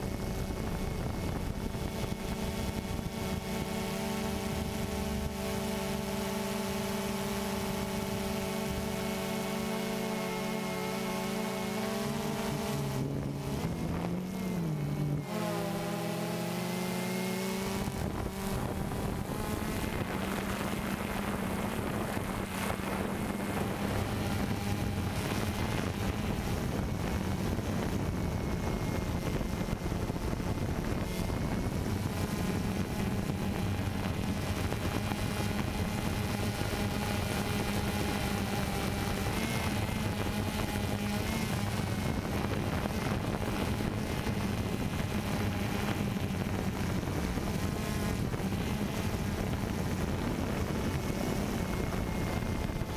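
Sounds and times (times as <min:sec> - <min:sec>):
quadcopter propellers buzzing: 0:00.0 - 0:52.9.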